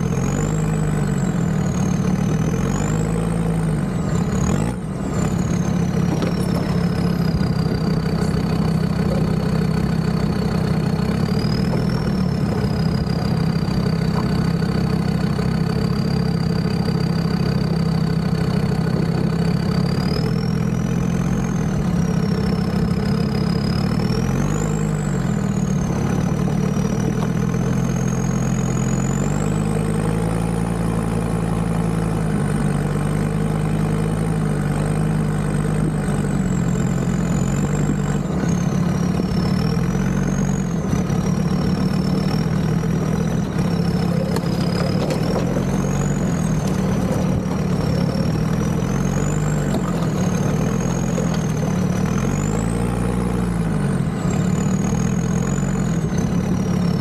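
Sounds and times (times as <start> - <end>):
diesel engine running at low revs: 0.0 - 57.0.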